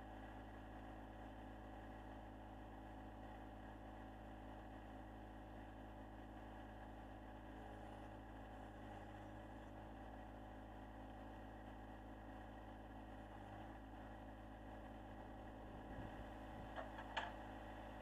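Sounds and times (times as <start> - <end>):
faint diesel tractor idling: 0.0 - 18.0.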